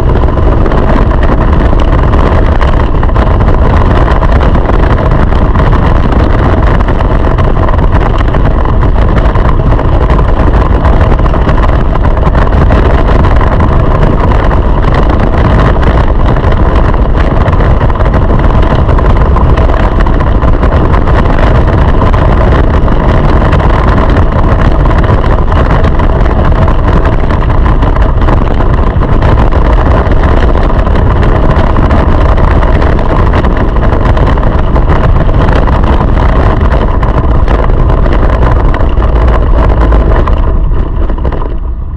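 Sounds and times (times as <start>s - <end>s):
go-kart engine running: 0.0s - 41.9s.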